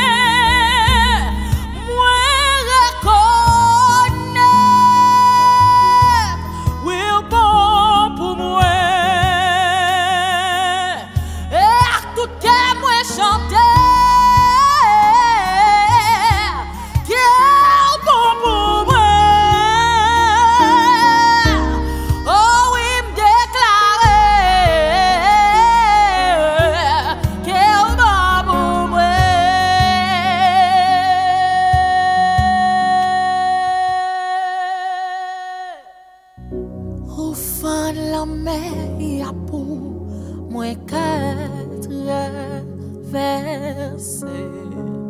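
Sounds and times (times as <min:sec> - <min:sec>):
bass and keyboard backing: 0:00.0 - 0:34.3, 0:36.4 - 0:45.0
woman singing with vibrato: 0:00.0 - 0:36.4, 0:37.1 - 0:44.8.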